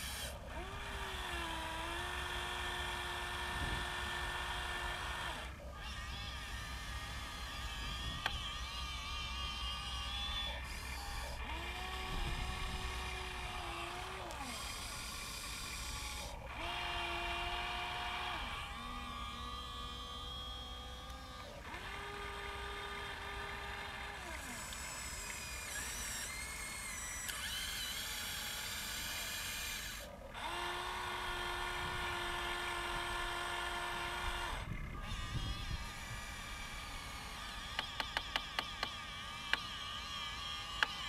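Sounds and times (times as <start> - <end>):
small electric motors whining: 0.0 - 41.0.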